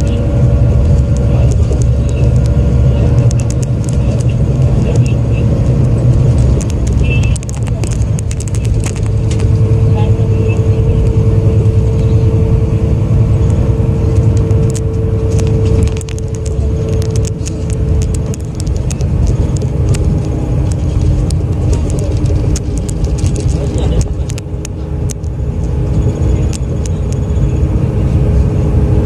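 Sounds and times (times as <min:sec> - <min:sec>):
diesel engine drone: 0:00.0 - 0:29.0
engine whine: 0:00.0 - 0:29.0.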